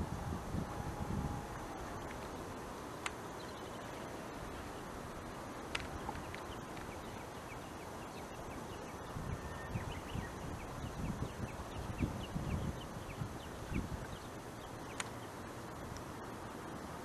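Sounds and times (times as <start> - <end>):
light even hiss: 0.0 - 17.0.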